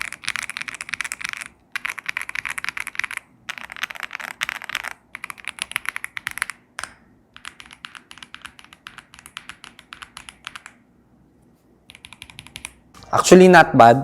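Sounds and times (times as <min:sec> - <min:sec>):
typing on mechanical keyboard: 0:00.0 - 0:10.8, 0:11.9 - 0:12.9.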